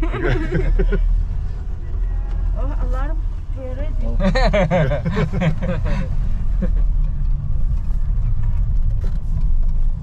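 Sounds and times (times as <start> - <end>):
engine and road noise rumble: 0.0 - 10.0.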